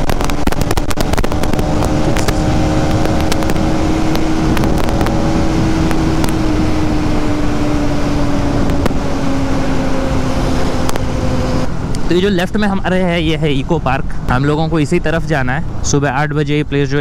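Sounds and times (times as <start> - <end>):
wind rushing over microphone: 0.0 - 16.0
motorcycle engine cruising: 0.0 - 17.0.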